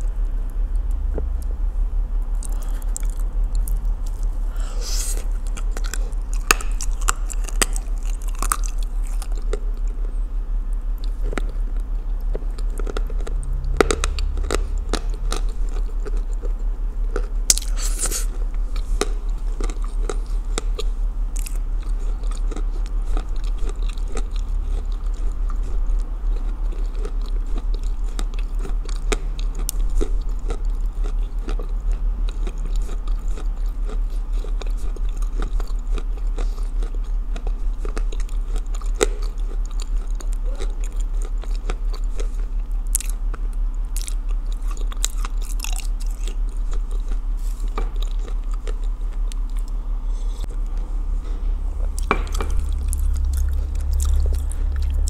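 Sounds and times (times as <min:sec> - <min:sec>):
chewing and crunching clay: 0:00.0 - 0:55.0.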